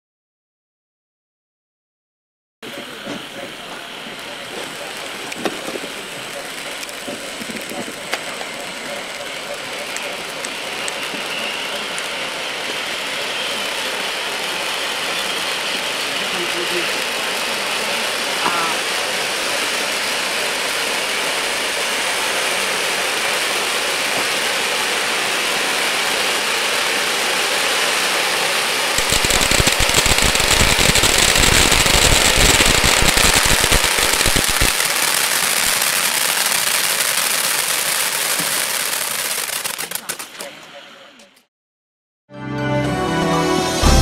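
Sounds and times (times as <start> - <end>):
firework crackling: 2.6 - 40.7
firework fountain hissing: 2.6 - 41.1.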